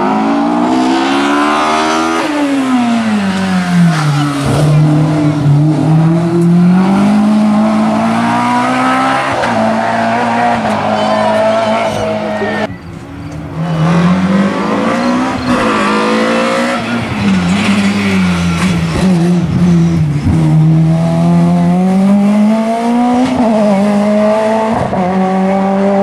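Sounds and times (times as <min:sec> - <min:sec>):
race car engine at high revs: 0:00.0 - 0:12.7, 0:13.4 - 0:26.0.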